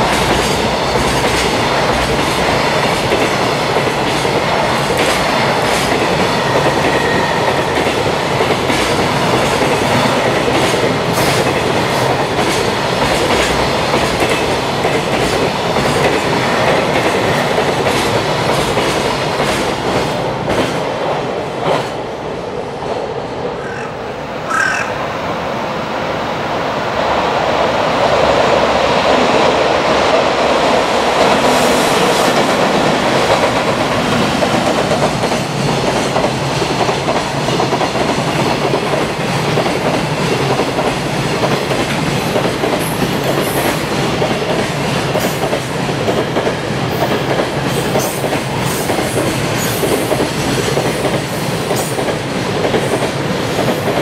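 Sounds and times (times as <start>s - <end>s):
freight train wheels clattering: 0.0s - 22.0s, 29.0s - 54.0s.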